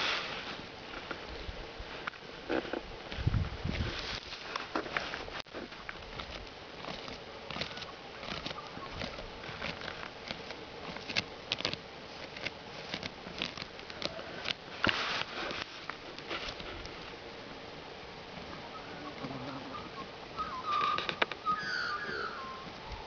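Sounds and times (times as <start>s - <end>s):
claws scraping soil: 0.0s - 23.0s
loose dirt pattering: 0.0s - 23.0s.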